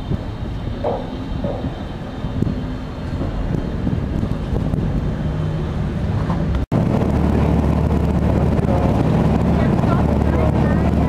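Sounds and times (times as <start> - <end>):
ferry engines low rumble: 0.0 - 11.0
wind buffeting microphone: 0.0 - 11.0.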